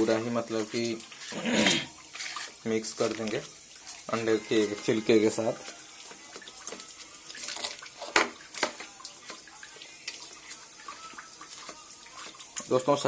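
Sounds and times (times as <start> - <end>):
wet squishing and scraping in bowl: 0.0 - 13.0.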